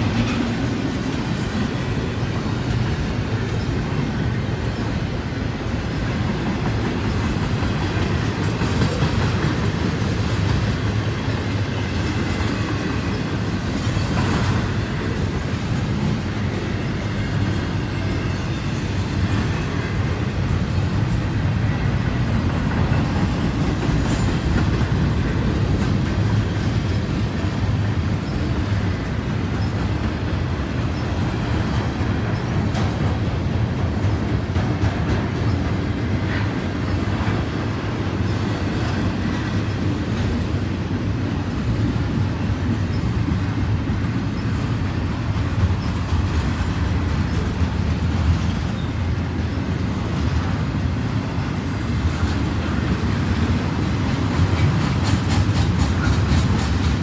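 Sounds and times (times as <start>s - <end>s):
train wheel clicks: 0.0s - 50.8s, 51.4s - 57.0s
freight train wheels on rails: 0.0s - 57.0s.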